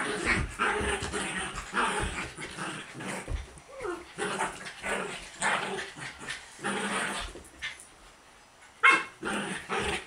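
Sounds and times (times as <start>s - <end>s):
small dog growling and barking: 0.0s - 7.8s, 8.8s - 10.0s.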